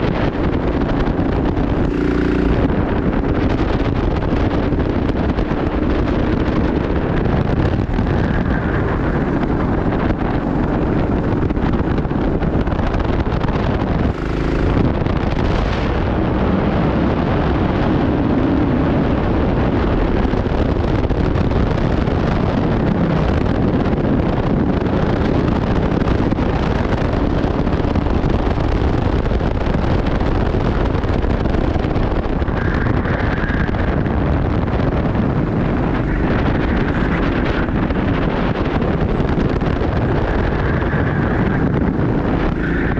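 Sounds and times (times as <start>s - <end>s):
kart engine running hard: 0.0s - 42.9s
wind buffeting microphone: 0.0s - 42.9s.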